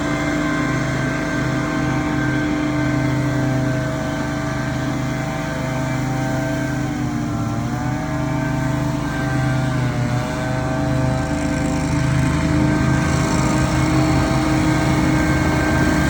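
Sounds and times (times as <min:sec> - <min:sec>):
petrol engine running at high speed: 0:00.0 - 0:16.0.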